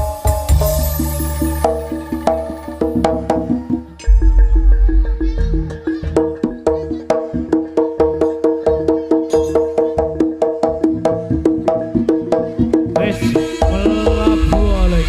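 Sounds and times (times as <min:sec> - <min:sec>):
drum beats: 0:00.0 - 0:15.0
struck pitched percussion: 0:00.0 - 0:15.0.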